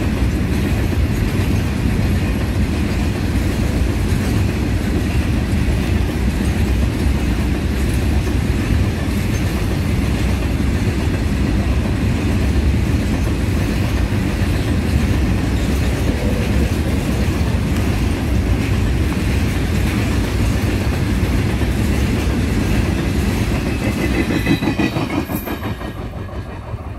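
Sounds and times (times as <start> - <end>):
clickety-clack over rail joints: 0.0 - 26.9
train wheels rumbling on rails: 0.0 - 26.9.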